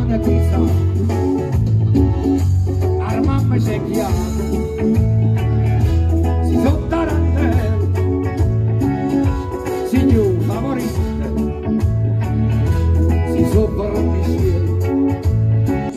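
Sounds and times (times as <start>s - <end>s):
man singing: 0.0s - 12.0s, 12.6s - 15.9s
bass line: 0.0s - 15.9s
keyboard: 0.0s - 15.9s.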